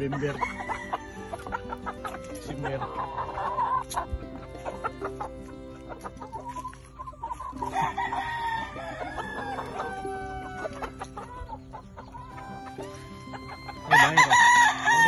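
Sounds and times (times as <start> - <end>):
chickens clucking: 0.0 - 15.0
roosters crowing: 0.0 - 15.0.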